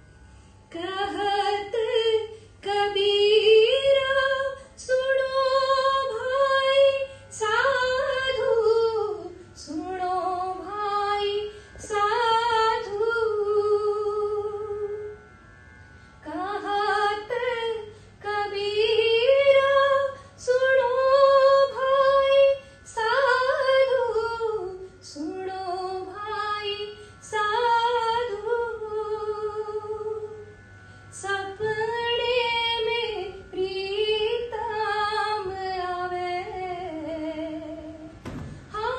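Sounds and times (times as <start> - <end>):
woman singing into microphone: 0.7 - 15.2, 16.2 - 30.4, 31.1 - 38.9.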